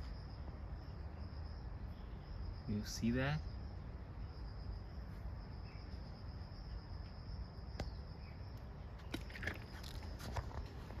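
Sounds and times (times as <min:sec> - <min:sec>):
insect high-pitched call: 0:00.0 - 0:11.0.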